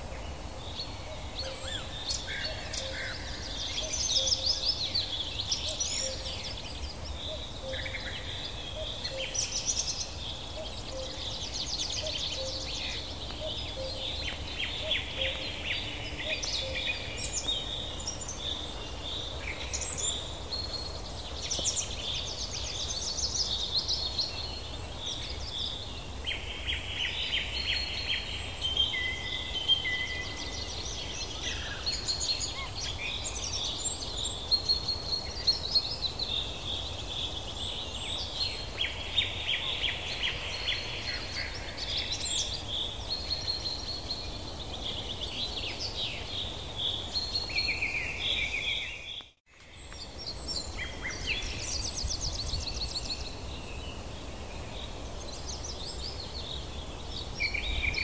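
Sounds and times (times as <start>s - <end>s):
birds singing and calling: 0.2s - 58.0s.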